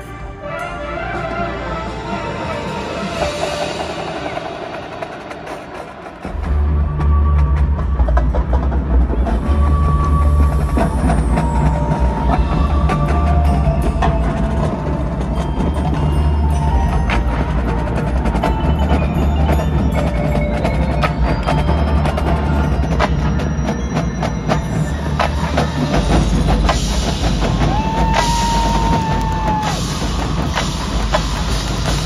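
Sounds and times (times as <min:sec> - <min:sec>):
marching band percussion: 0:00.0 - 0:32.0.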